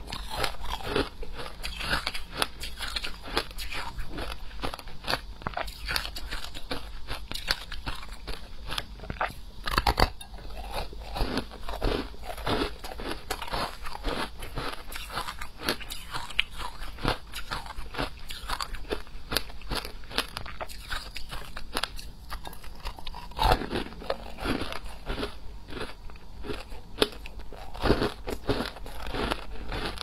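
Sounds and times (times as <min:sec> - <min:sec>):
ice crunching between teeth: 0:00.0 - 0:30.0.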